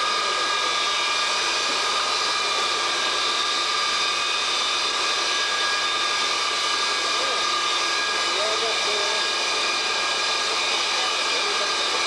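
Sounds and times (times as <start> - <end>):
jet engines running with high whine: 0.0 - 12.0.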